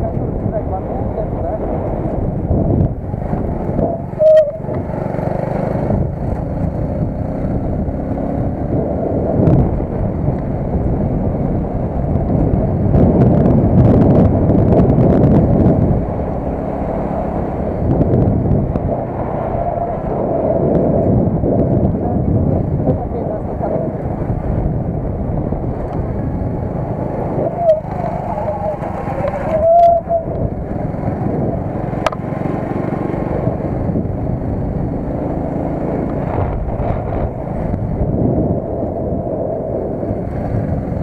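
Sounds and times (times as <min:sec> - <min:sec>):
vehicle engine and road noise: 0:00.0 - 0:41.0.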